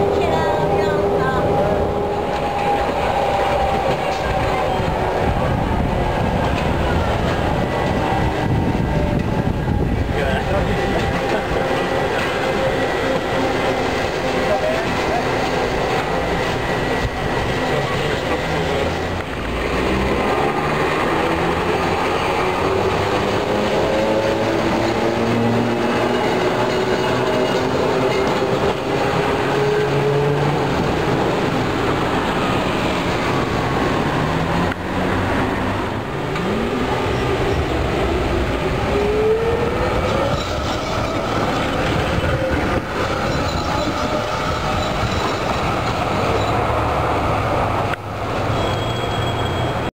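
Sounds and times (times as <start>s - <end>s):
tram motor whine: 0.0s - 48.0s
tram wheels rumbling on rails: 0.0s - 49.9s.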